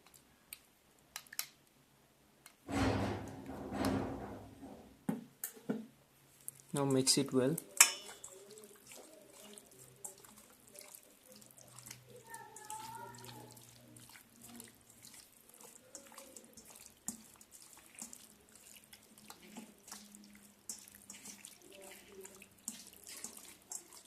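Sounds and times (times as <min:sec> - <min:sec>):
wet squelching of hand mixing: 0:00.0 - 0:01.6, 0:06.3 - 0:24.0.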